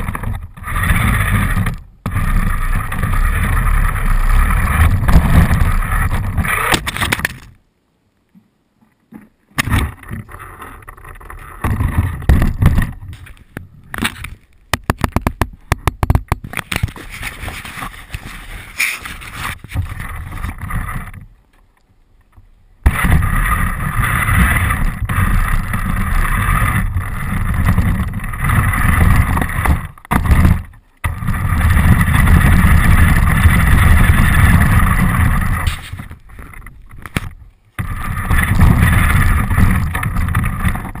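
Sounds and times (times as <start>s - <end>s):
wheels rolling over ground: 0.0s - 7.6s, 9.0s - 41.0s.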